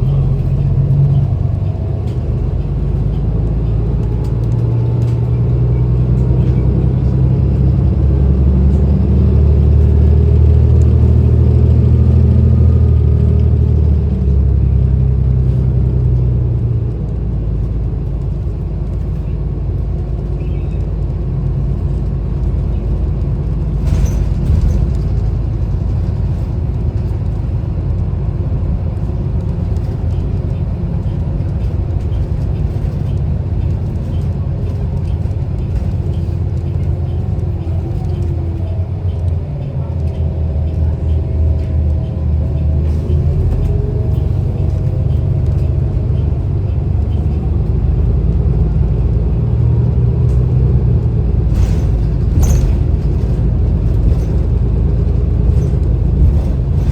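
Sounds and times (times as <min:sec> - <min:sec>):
bus engine drone: 0:00.0 - 0:56.9.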